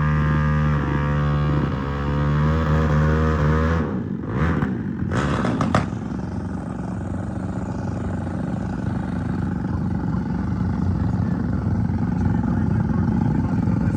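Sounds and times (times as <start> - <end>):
motorcycle engines revving: 0.0 - 13.9.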